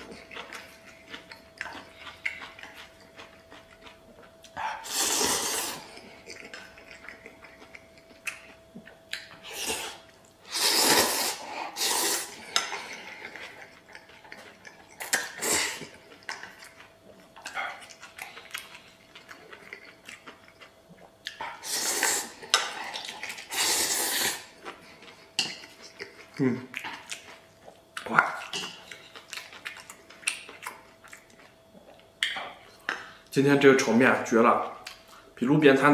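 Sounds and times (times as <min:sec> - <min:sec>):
chewing: 0:00.0 - 0:10.4, 0:12.3 - 0:23.6, 0:24.4 - 0:33.2.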